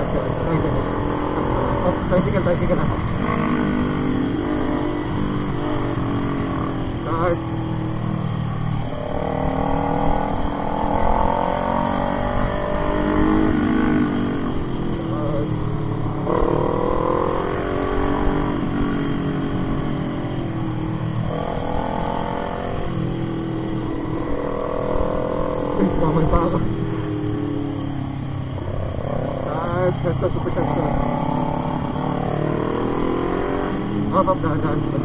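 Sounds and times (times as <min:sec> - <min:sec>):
motorcycle engine shifting gears: 0:00.0 - 0:35.0.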